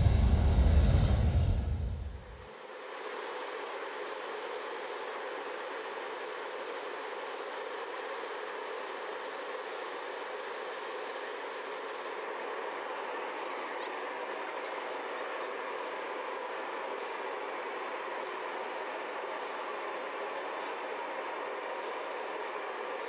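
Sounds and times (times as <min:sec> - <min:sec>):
turbine hiss and whine: 0:00.0 - 0:23.0.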